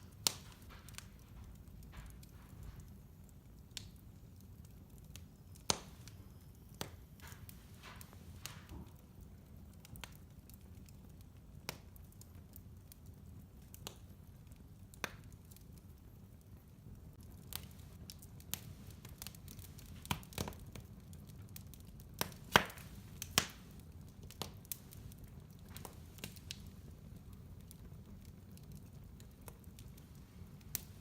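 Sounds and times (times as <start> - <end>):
low steady fire rumble: 0.0 - 31.0
wood fire crackling and popping: 0.0 - 31.0.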